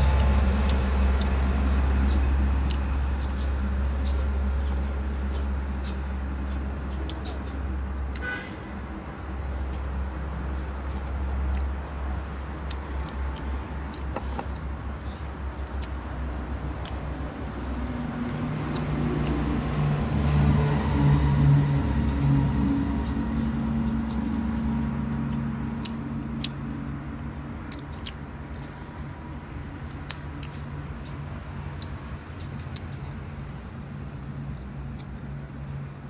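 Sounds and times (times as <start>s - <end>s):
vehicle engine passing: 0.0s - 32.6s
traffic rumble: 0.0s - 36.0s.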